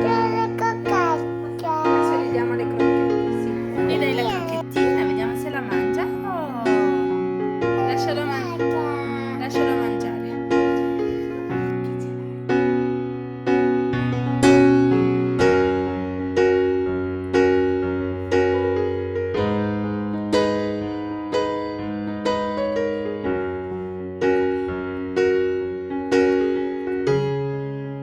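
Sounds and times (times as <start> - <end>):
slow piano music: 0.0 - 28.0.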